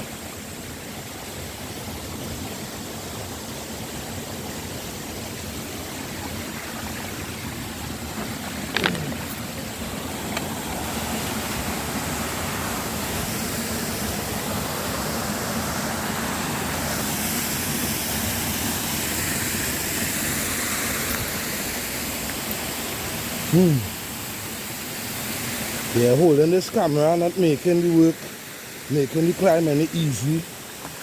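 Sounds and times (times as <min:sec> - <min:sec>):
waterfall rushing into pool: 0:00.0 - 0:31.0.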